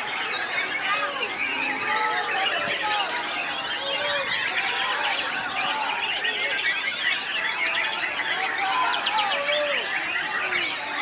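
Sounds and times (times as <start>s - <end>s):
chorus of songbirds singing: 0.0s - 11.0s.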